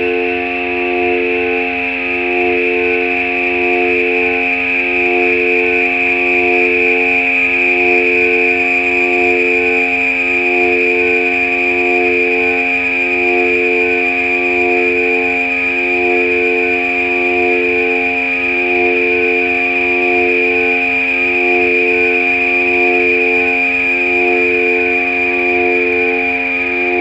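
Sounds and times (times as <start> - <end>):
high held synth tone: 0.0 - 27.0
low organ-like synth tones: 0.0 - 27.0.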